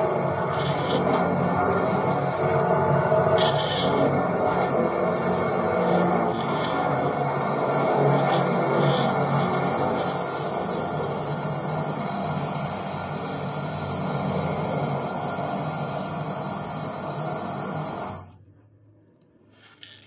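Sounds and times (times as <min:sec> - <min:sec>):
drain jetter pump and water rush: 0:00.0 - 0:18.3.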